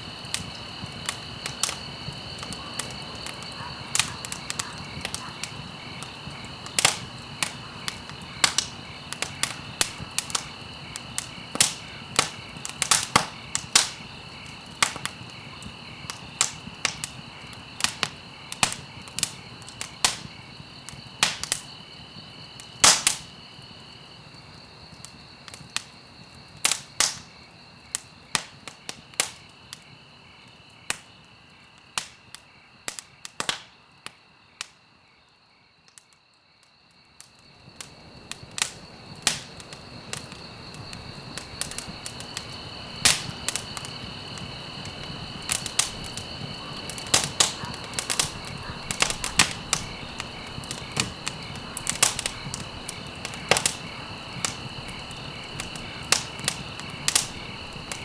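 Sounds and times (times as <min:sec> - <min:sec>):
wood fire crackling and popping: 0:00.0 - 0:34.8, 0:37.2 - 0:58.0.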